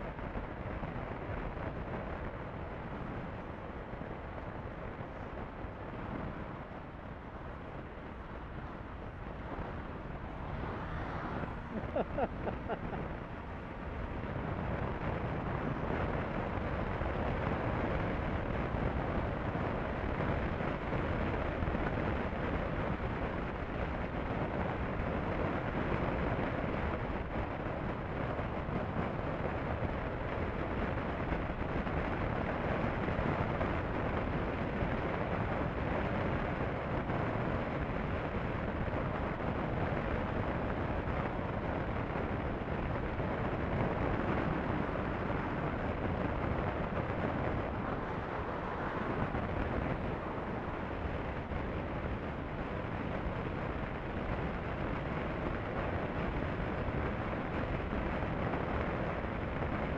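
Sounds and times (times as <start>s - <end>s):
motorcycle road noise: 0.0s - 59.9s
wind rush on microphone: 0.0s - 59.9s.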